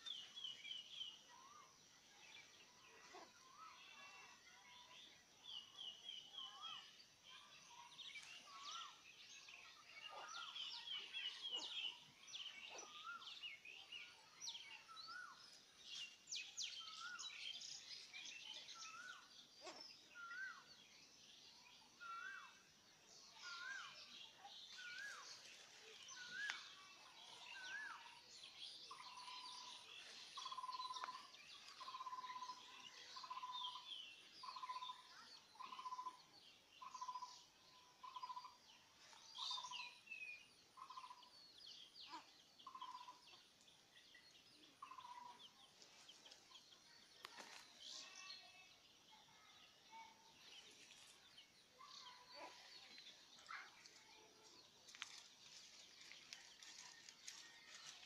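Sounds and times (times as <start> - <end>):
birds twittering and chirping: 0.0 - 58.0.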